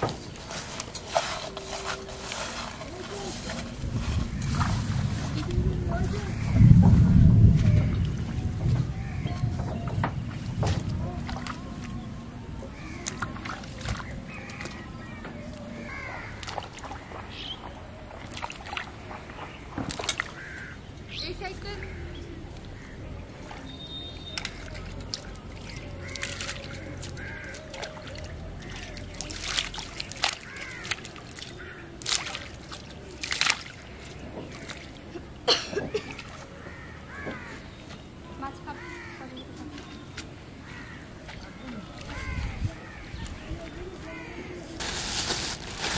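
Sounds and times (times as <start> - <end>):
water splashing and sloshing: 0.0 - 45.9.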